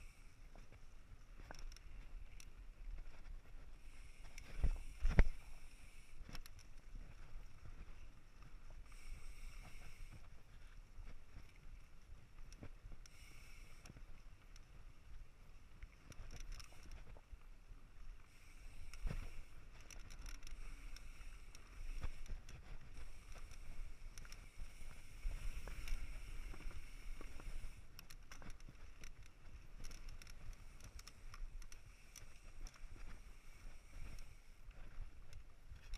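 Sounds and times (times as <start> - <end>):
bike tyres rolling on dirt: 0.0 - 35.9.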